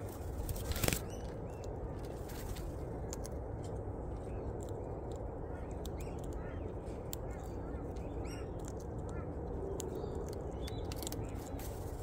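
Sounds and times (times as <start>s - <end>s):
birds cracking seed: 0.0s - 12.0s
low background noise: 0.0s - 12.0s
small birds chirping: 0.0s - 12.0s.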